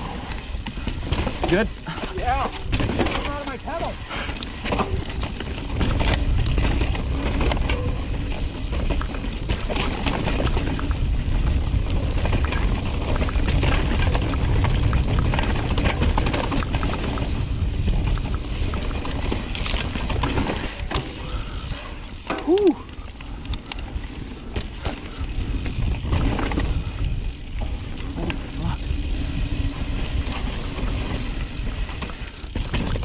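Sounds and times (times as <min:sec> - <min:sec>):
bike clattering over bumps: 0:00.0 - 0:33.0
tyres grinding over dirt and rock: 0:00.0 - 0:33.0
wind rumble on microphone: 0:04.1 - 0:33.0.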